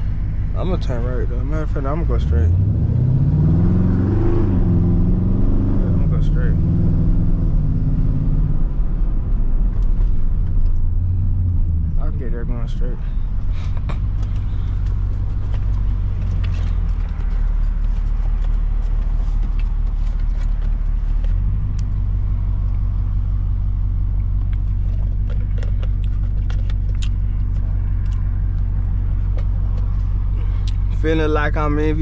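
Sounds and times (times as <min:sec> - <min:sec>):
car engine low drone: 0:00.0 - 0:32.0.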